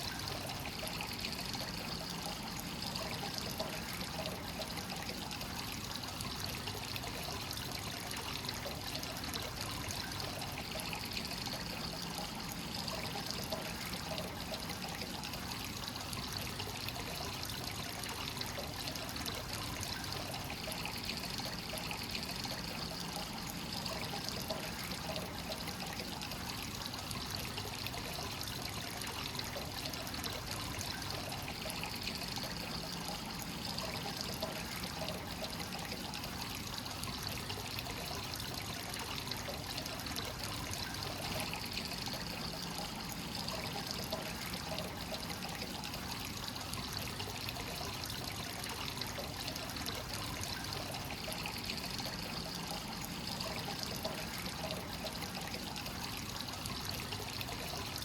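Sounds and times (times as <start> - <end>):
water pouring into a bath: 0.0 - 58.0.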